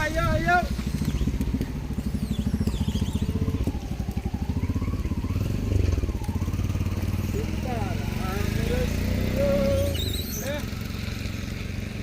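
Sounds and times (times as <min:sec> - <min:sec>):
small engine running: 0:00.2 - 0:12.0.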